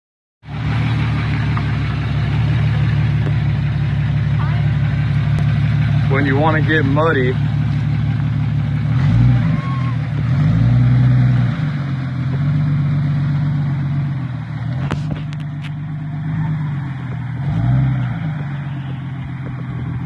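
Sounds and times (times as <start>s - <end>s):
car engine revving: 0.4s - 20.0s.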